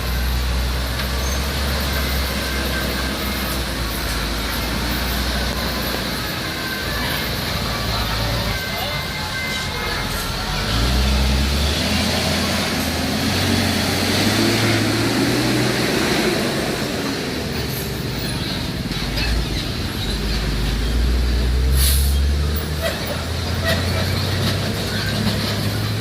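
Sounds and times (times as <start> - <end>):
diesel engines passing: 0.0 - 26.0
heavy road traffic: 0.0 - 26.0.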